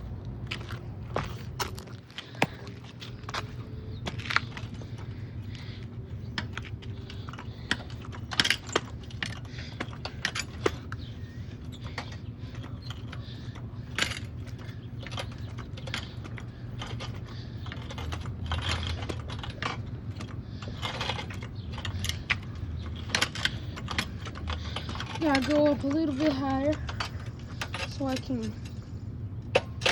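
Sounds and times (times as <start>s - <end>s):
low hum: 0.0s - 29.9s.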